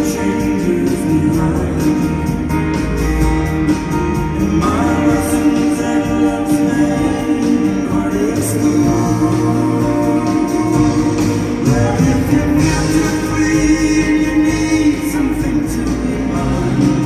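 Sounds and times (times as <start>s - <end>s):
person singing with backing harmonies: 0.0s - 3.2s, 4.1s - 17.0s
drums: 0.0s - 17.0s
keyboard: 0.0s - 17.0s.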